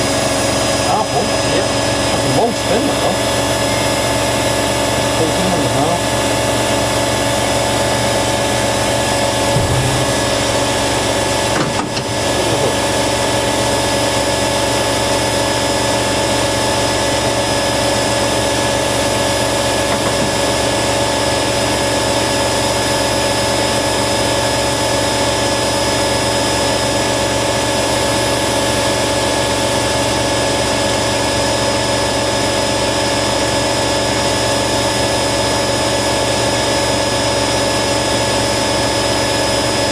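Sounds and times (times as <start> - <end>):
washer dryer motor whine: 0.0 - 39.9.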